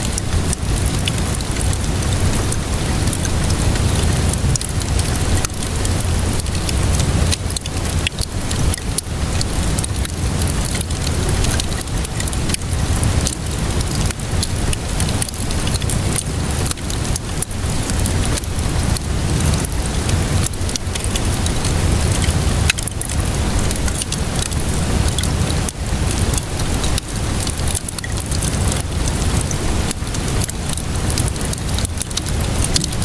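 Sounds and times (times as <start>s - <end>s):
steady rainfall: 0.0s - 33.0s
wood fire crackling: 0.0s - 33.0s.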